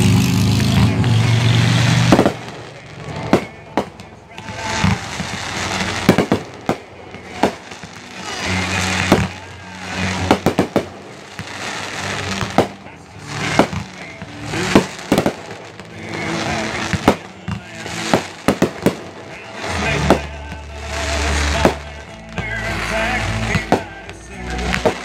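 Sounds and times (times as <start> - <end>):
fireworks bursting: 0.0 - 25.0
hissing firework shells: 0.0 - 25.0
music with low notes: 0.0 - 25.0.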